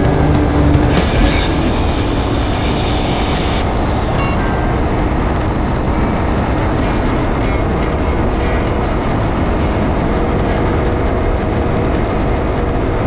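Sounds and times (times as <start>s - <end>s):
engine drone: 0.0s - 13.0s
road rumble: 0.0s - 13.0s
wind noise: 0.0s - 13.0s.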